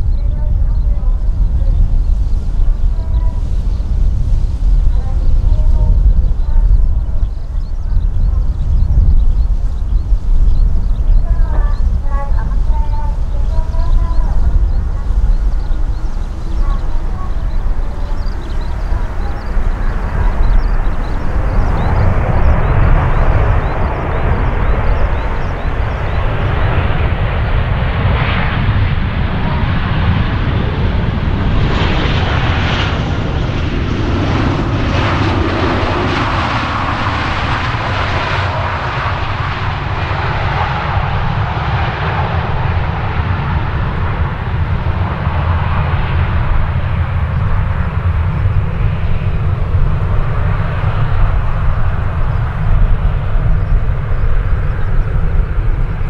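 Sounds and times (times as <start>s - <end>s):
jet engine roar: 0.0s - 56.0s
jet engine whine: 0.0s - 56.0s.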